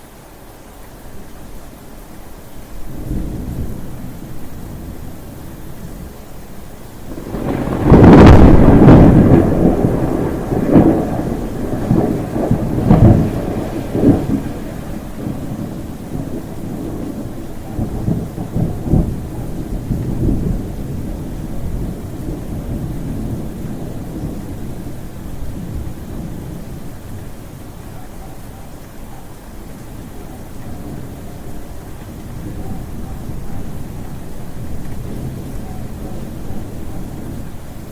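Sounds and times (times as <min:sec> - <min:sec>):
rain hissing: 0:00.0 - 0:37.9
thunder rumbling: 0:02.7 - 0:37.9.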